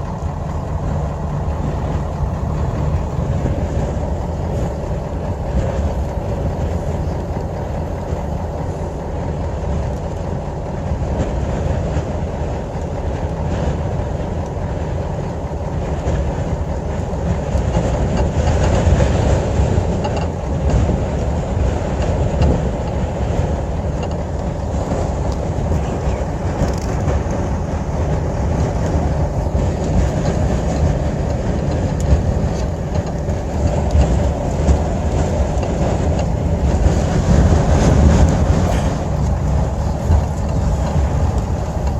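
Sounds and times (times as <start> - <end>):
rushing wind: 0.0 - 41.9
vehicle rumble from inside: 0.0 - 41.9.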